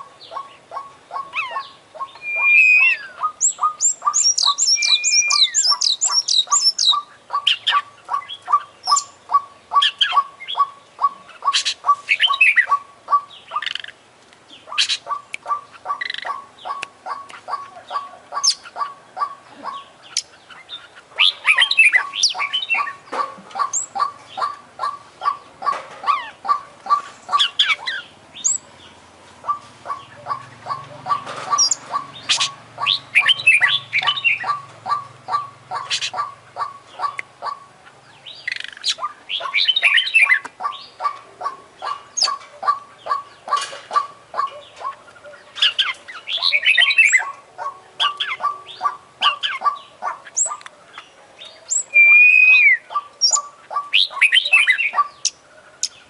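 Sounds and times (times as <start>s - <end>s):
songbird singing varied song: 0.0s - 56.0s.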